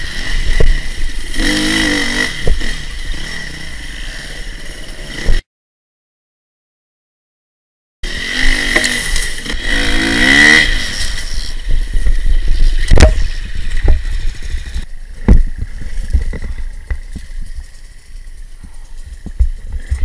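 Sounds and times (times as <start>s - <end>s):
dirt bike engine revving: 0.0s - 5.4s, 8.0s - 19.2s.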